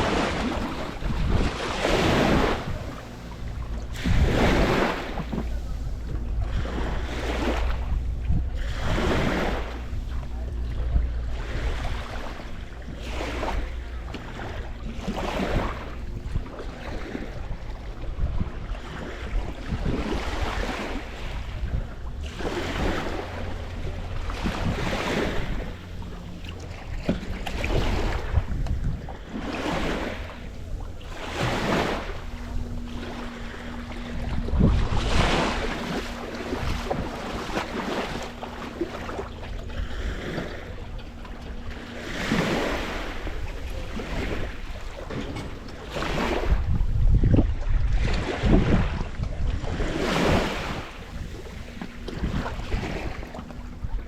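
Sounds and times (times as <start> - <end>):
small waves washing in: 0.0 - 54.0
wind rumble on microphone: 0.0 - 54.0.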